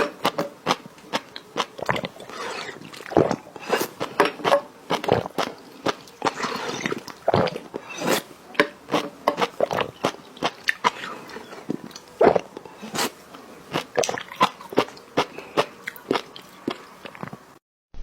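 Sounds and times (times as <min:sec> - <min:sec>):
person eating crunchy food: 0:00.0 - 0:17.6.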